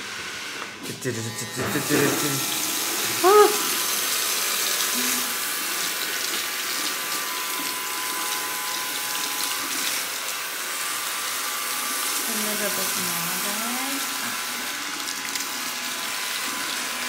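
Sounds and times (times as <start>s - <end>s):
water from hand shower into basin: 1.7s - 17.0s.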